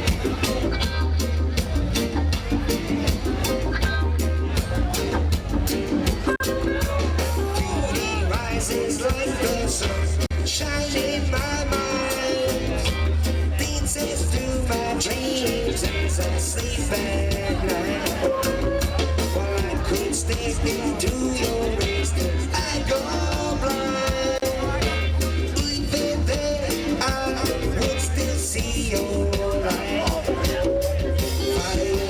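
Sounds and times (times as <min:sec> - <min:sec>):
drum hits: 0:00.0 - 0:32.0
heavy bass line: 0:00.0 - 0:32.0
reggae band playing live: 0:00.0 - 0:32.0.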